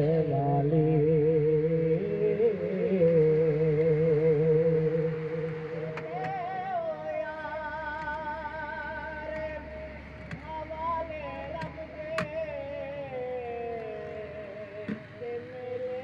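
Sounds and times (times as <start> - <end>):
person singing devotional song: 0.0 - 16.0.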